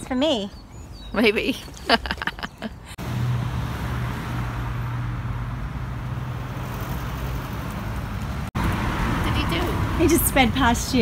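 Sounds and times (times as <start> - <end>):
road traffic car noise: 0.0 - 11.0.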